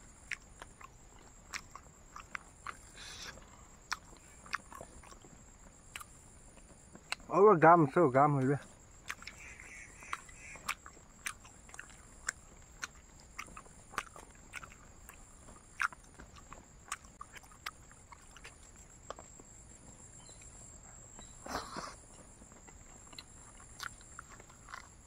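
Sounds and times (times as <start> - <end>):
chewing crunchy food: 0.0 - 25.0.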